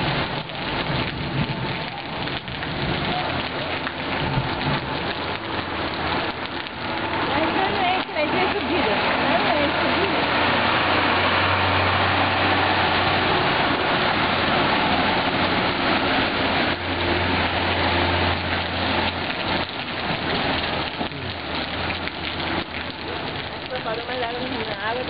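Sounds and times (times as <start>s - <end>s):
rain hissing: 0.0s - 25.0s
running floodwater: 0.0s - 25.0s
truck engine rumble: 0.0s - 25.0s.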